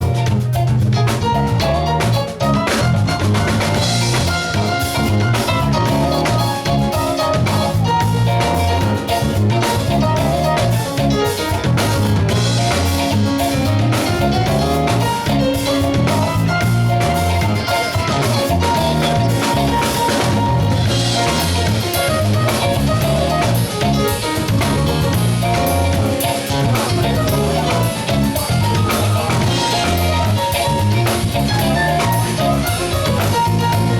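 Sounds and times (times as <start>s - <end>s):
drum kit: 0.0s - 33.9s
live band playing: 0.0s - 33.9s.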